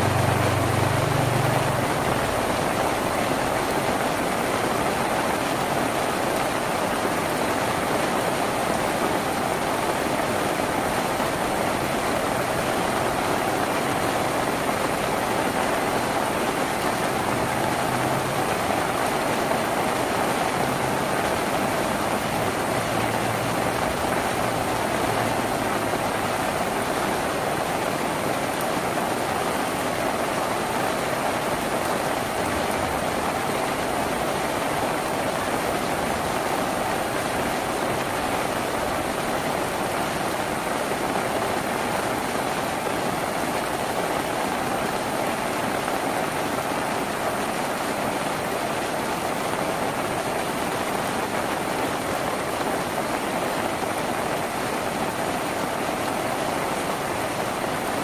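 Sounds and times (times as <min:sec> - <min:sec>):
rain on a tin roof: 0:00.0 - 0:58.0.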